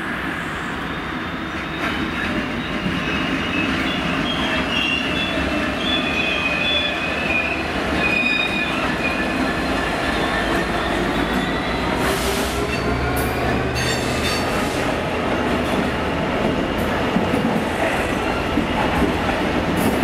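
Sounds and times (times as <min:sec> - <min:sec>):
diesel locomotive engine: 0:00.0 - 0:20.0
wheels rumbling on rail: 0:01.2 - 0:20.0.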